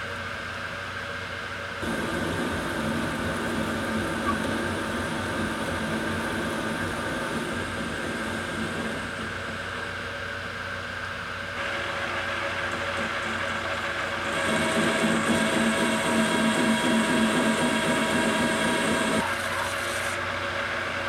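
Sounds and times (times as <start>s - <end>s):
metal lathe cutting: 1.8s - 9.8s, 11.6s - 21.0s.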